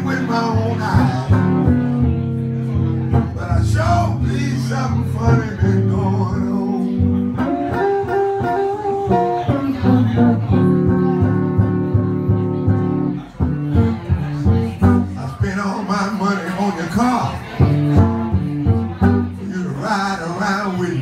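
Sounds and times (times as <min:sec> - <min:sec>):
blues electric guitar: 0:00.0 - 0:21.0.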